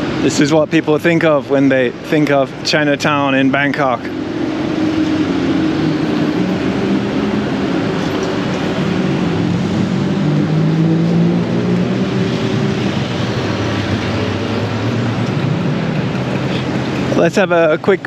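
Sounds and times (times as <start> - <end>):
low engine hum: 0.0 - 18.0
road noise: 0.0 - 18.0
vehicle engines running: 0.0 - 18.0.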